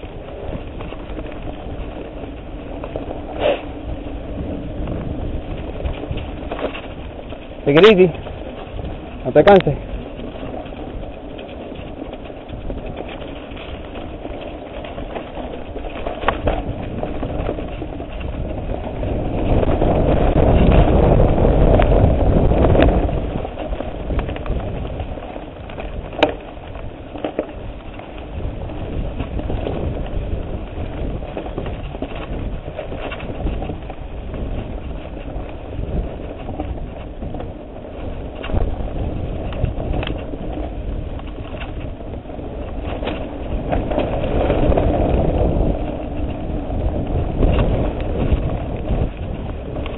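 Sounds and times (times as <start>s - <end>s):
bike knocking over bumps: 0.0s - 49.9s
bike rumbling and rattling on trail: 0.0s - 49.9s.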